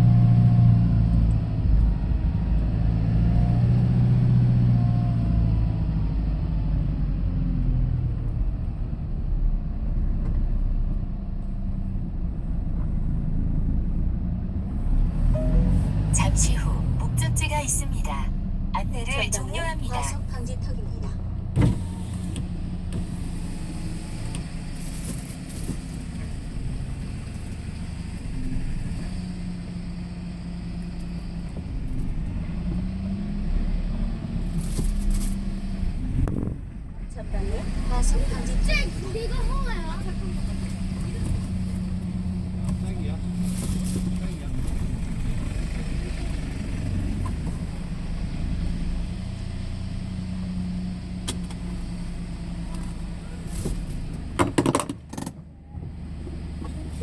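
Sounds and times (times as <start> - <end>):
vehicle engine humming: 0.0 - 57.0.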